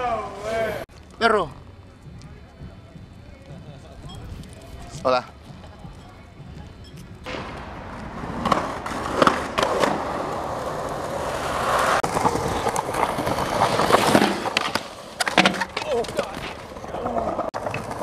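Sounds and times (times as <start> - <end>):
skateboard wheels rolling on concrete: 0.0 - 18.0
skateboard clacking on ground: 3.5 - 18.0.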